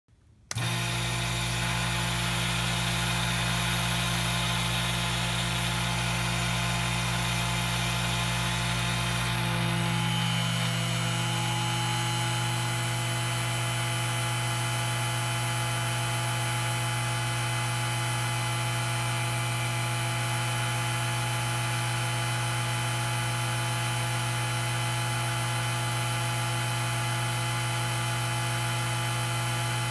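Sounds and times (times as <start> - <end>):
vacuum pump humming: 0.5 - 29.9.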